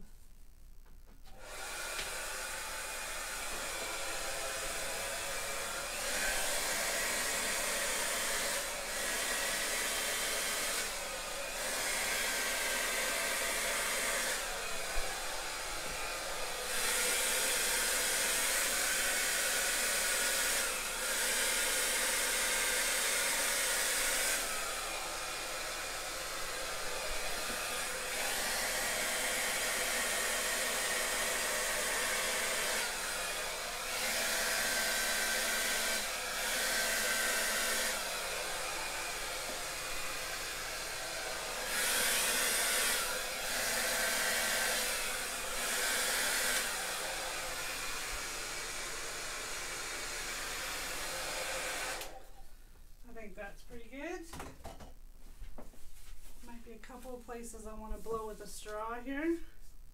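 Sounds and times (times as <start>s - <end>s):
hair dryer running: 1.3s - 52.4s.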